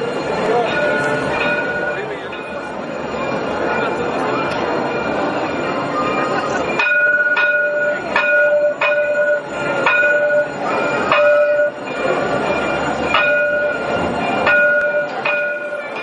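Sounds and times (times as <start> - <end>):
electric tram whine: 0.0 - 16.0
wheels clicking on track: 0.0 - 16.0.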